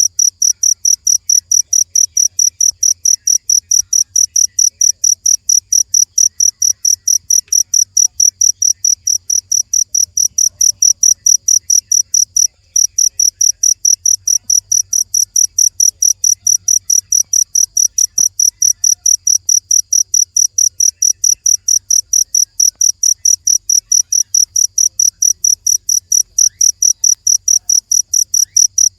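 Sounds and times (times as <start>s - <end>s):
cricket chirping: 0.0s - 28.9s.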